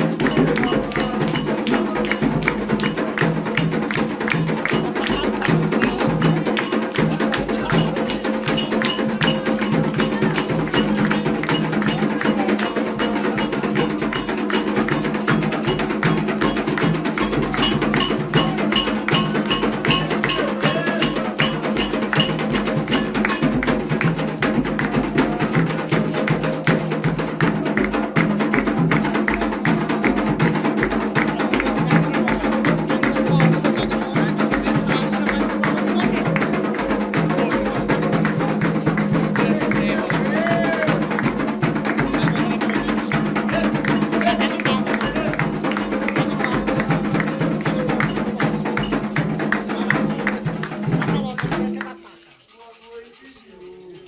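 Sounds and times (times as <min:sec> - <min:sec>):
fast ritual drumming: 0:00.0 - 0:54.0.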